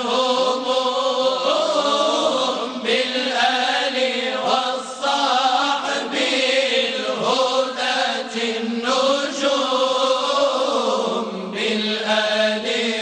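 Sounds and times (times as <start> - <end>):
person chanting devotional song: 0.0 - 13.0.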